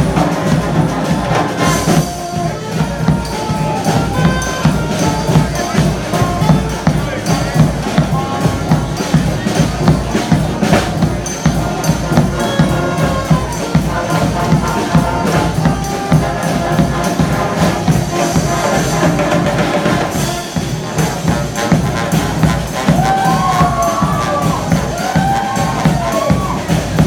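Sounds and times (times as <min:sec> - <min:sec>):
drums and percussion beat: 0:00.0 - 0:27.0
street brass band playing: 0:00.0 - 0:27.0.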